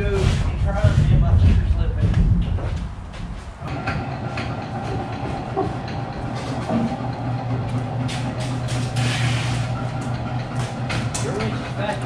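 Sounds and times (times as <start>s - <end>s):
machinery humming and clattering: 0.0s - 12.0s.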